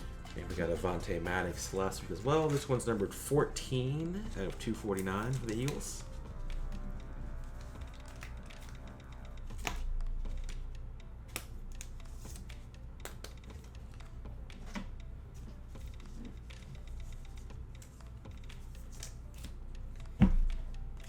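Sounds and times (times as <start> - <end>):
trading cards and wrappers rustling: 0.0 - 10.6, 11.3 - 19.6.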